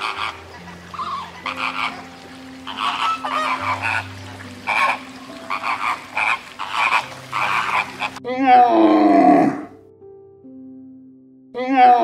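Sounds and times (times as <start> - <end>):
flamingos honking: 0.0 - 9.7.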